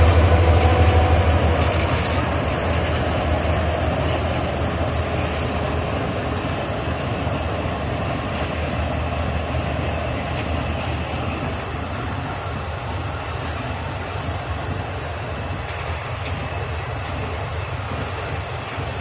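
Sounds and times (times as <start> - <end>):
freight wagons rumbling past: 0.0 - 15.7
diesel locomotive engine drone: 0.0 - 19.0.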